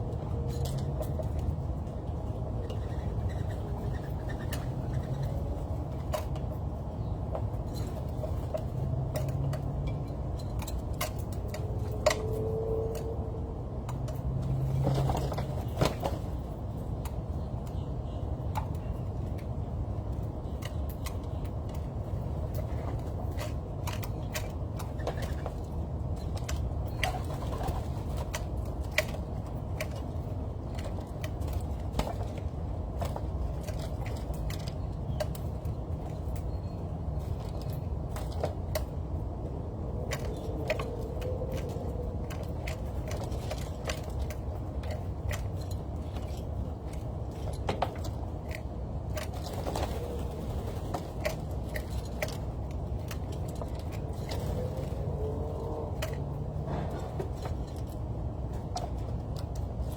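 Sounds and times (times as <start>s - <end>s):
distant traffic rumble: 0.0s - 59.9s.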